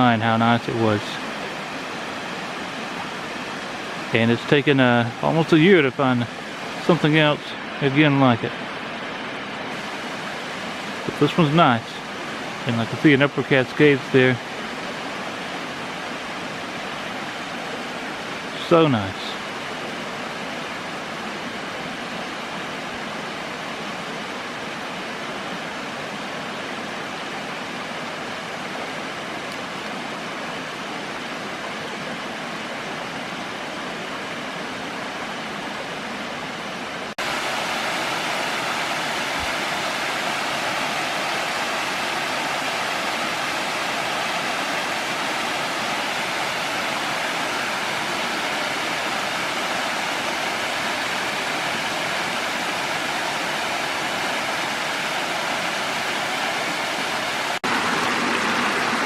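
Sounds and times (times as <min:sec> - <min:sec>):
water rushing down rocky creek: 0:00.0 - 0:59.0.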